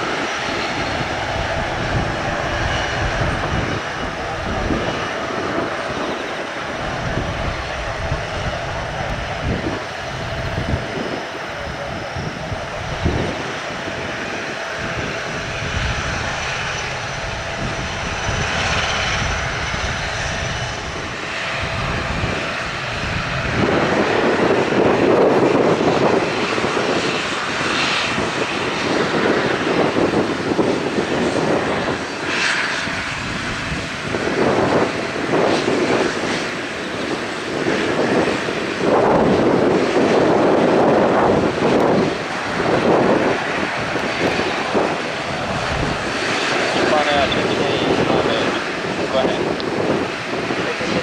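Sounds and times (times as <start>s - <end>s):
airliner engines rumbling: 0.0s - 51.0s
gusting wind: 0.0s - 51.0s.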